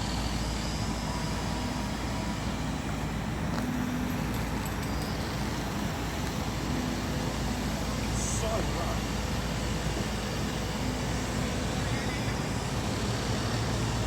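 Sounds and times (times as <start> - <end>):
low engine drone: 0.0 - 14.0
traffic rumble: 0.0 - 14.0.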